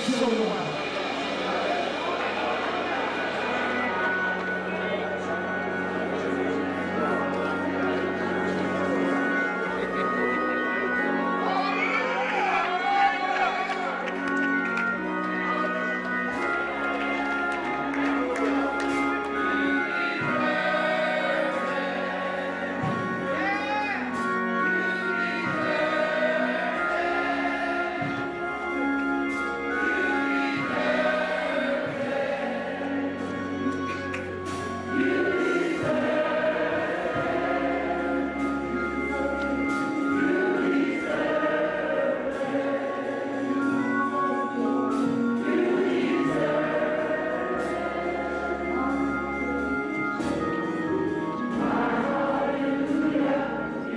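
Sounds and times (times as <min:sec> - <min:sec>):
gospel choir singing: 0:00.0 - 0:53.9.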